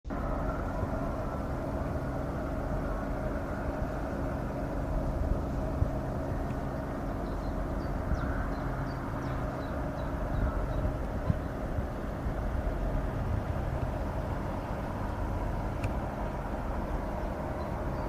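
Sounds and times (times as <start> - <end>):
low mechanical drone: 0.1 - 18.0
uneven low rumble: 0.1 - 18.0.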